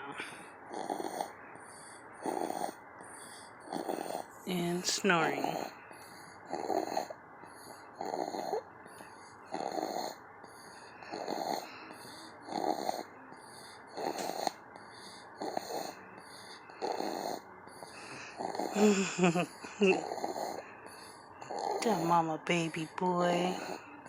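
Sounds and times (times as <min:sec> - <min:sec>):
raspy snoring: 0:00.0 - 0:24.0.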